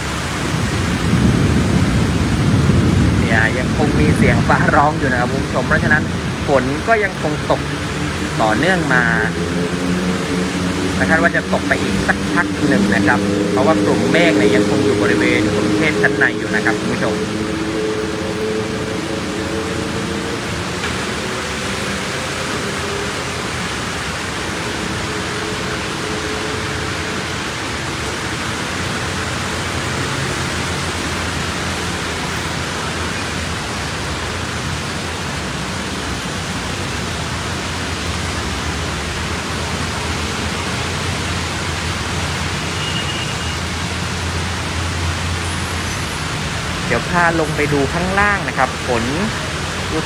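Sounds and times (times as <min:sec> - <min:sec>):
heavy rain hissing: 0:00.0 - 0:50.0
traffic through floodwater: 0:00.0 - 0:50.0.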